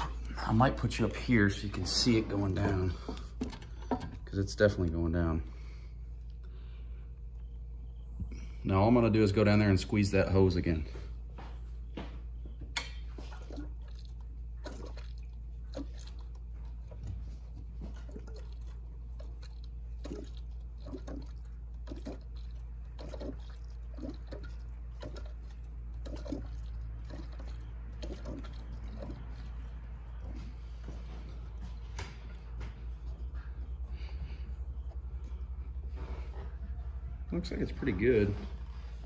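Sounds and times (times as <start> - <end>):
coolant gurgling and bubbling: 0.0 - 5.4, 12.3 - 39.0
steady low hum: 0.0 - 39.0.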